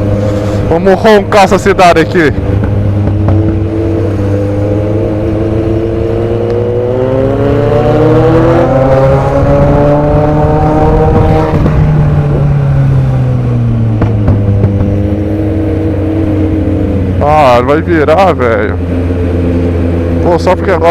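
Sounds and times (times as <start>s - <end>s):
car engine accelerating hard: 0.0s - 20.9s.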